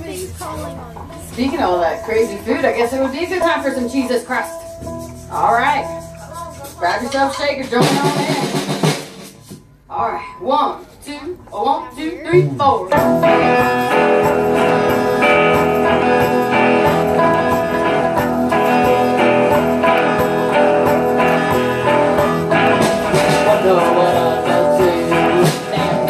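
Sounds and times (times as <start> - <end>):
mandolin and guitars strumming: 0.0 - 8.7, 12.3 - 26.0
shaker beat: 0.0 - 9.8, 12.4 - 26.0.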